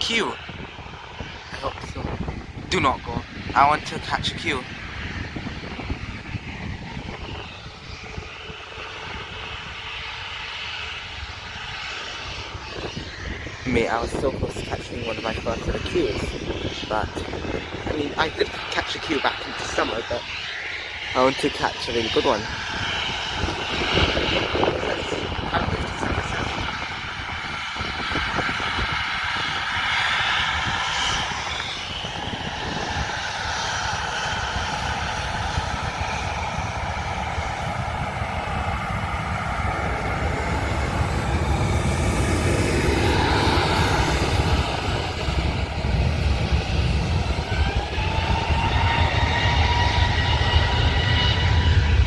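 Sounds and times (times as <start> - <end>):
jet engines spooling up: 0.0 - 52.0.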